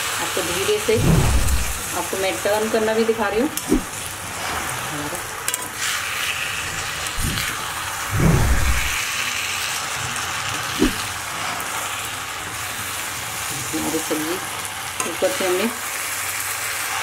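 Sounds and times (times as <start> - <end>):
leaves sizzling in hot oil: 0.0 - 1.0, 1.8 - 8.1, 8.9 - 17.0.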